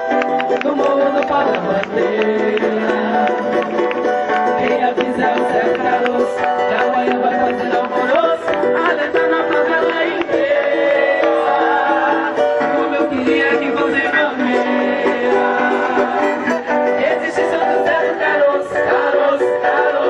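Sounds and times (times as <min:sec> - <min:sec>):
hand percussion beat: 0:00.0 - 0:20.0
plucked strings: 0:00.0 - 0:20.0.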